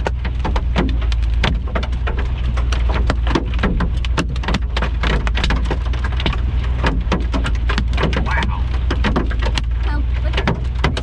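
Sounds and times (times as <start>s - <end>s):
hail and rain striking a vehicle: 0.0s - 11.0s
low rumble: 0.0s - 11.0s.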